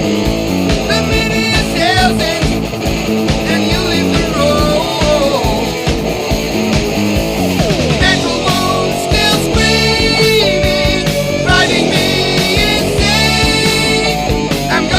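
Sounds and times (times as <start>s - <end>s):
lead guitar bending notes: 0.0s - 14.9s
steady drum beat: 0.0s - 14.9s.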